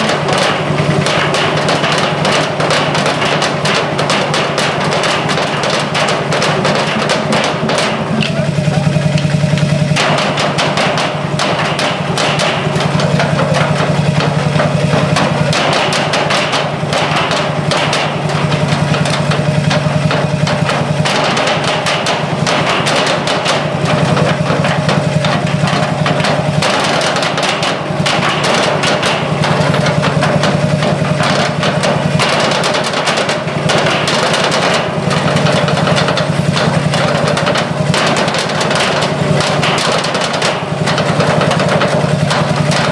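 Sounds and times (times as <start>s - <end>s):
drumming on plastic-covered barrels: 0.0s - 42.9s
engine running: 0.0s - 42.9s.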